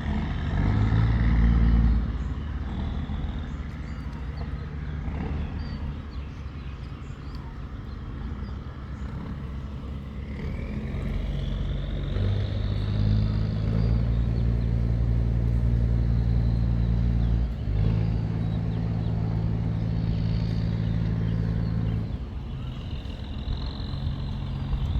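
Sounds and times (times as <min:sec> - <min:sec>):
boat diesel engine droning: 0:00.0 - 0:24.9.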